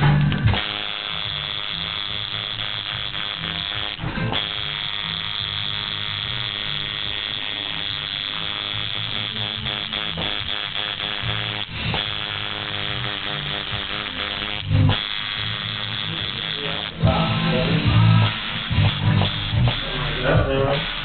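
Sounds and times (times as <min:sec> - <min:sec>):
background music with bass: 0:00.0 - 0:21.0
tattoo machine buzzing: 0:00.0 - 0:21.0.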